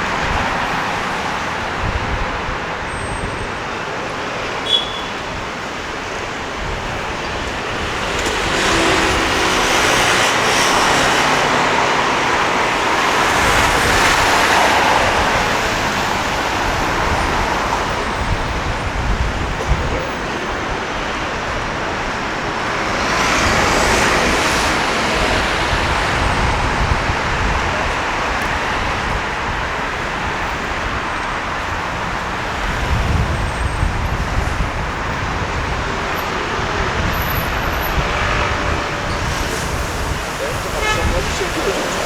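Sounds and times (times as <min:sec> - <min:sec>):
steady traffic hum: 0:00.0 - 0:42.0
vehicles passing close by: 0:00.0 - 0:42.0.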